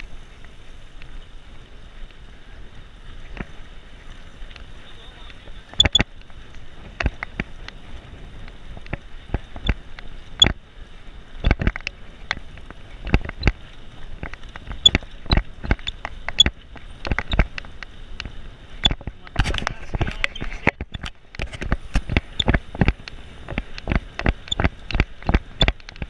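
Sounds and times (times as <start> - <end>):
bicycle rattling over road: 0.0 - 26.0
wind and rolling noise: 0.0 - 26.0.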